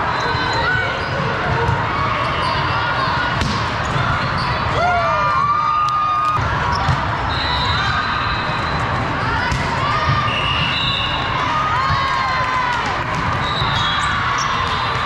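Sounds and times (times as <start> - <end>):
crowd chatter: 0.0 - 15.0
players shouting and cheering: 0.0 - 15.0.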